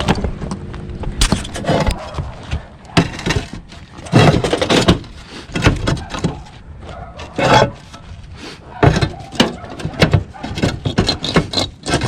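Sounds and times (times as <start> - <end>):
roof tiles knocking and scraping: 0.0 - 12.0.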